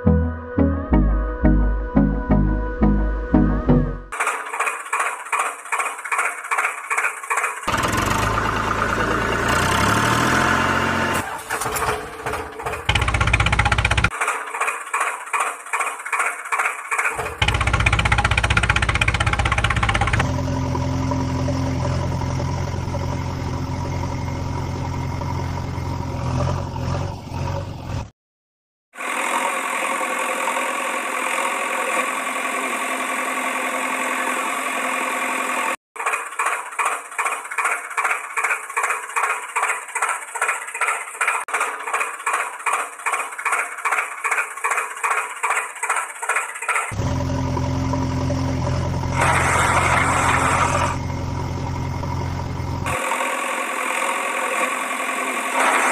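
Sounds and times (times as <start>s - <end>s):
rough engine sound: 2.0s - 28.2s, 29.0s - 55.9s
tractor engine idling: 4.1s - 26.8s, 29.0s - 55.9s
engine chugging: 4.1s - 28.1s, 29.0s - 55.9s.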